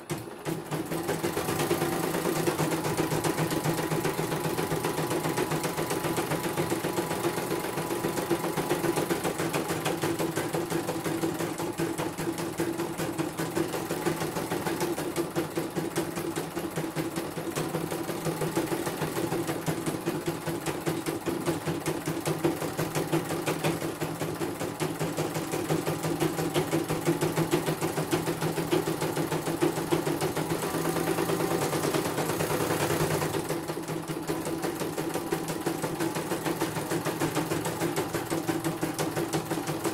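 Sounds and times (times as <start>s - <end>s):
sewing needle clatter: 0.0s - 39.9s.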